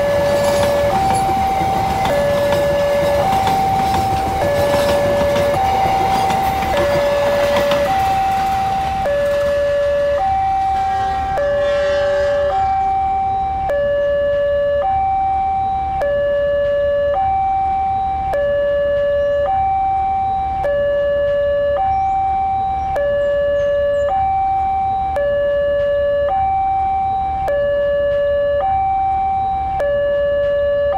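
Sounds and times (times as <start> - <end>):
two-tone siren: 0.0 - 30.9.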